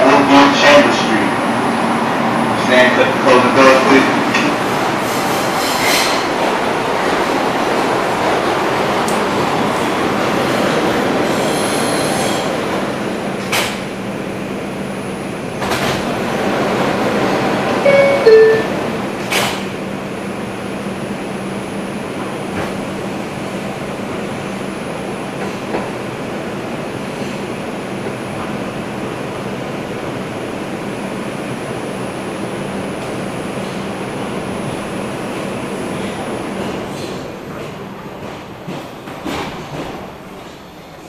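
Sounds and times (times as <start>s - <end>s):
subway wheels rumbling on rail: 0.0s - 41.0s.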